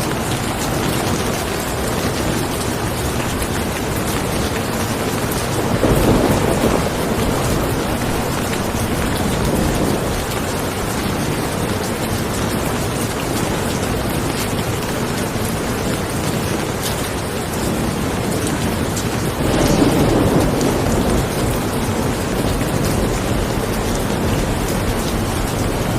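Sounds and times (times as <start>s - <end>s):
heavy rain: 0.0s - 25.9s
low rumble of thunder: 0.1s - 16.8s, 17.5s - 25.9s.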